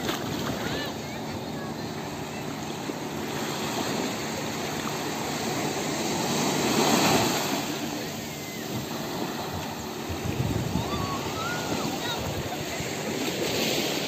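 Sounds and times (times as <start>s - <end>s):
small waves breaking on sand: 0.0s - 14.0s.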